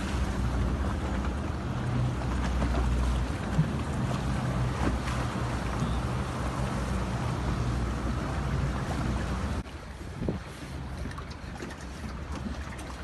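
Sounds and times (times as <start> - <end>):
outboard engines running: 0.0 - 13.0
wind and water rushing: 0.0 - 13.0.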